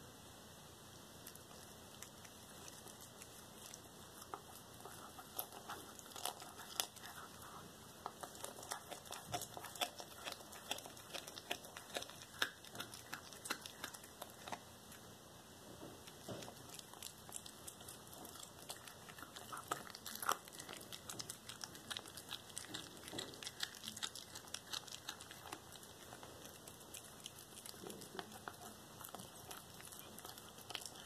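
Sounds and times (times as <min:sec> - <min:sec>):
cat crunching on bones: 0:01.2 - 0:15.1, 0:15.9 - 0:31.0.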